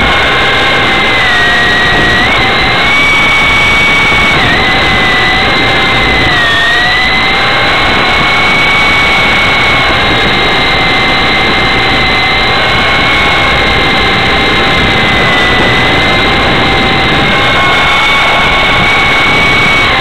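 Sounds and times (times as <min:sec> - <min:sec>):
electric motors whining: 0:00.0 - 0:20.0
rotor noise: 0:00.0 - 0:20.0.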